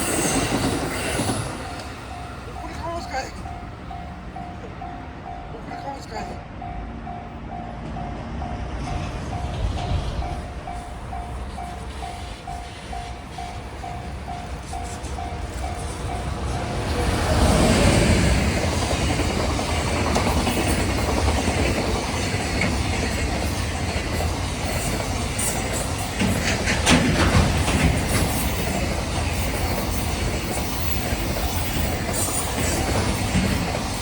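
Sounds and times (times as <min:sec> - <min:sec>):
clickety-clack over rail joints: 0:00.0 - 0:06.4, 0:07.7 - 0:34.0
freight train wheels rumbling: 0:00.0 - 0:34.0.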